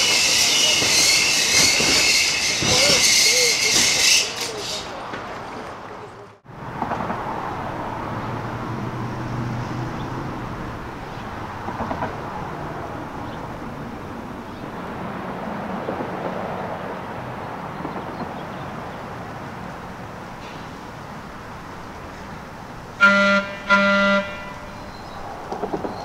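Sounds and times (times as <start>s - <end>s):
cars passing close: 0.0s - 26.0s
electric trolley approaching: 0.0s - 26.0s
steady road noise: 0.0s - 26.0s.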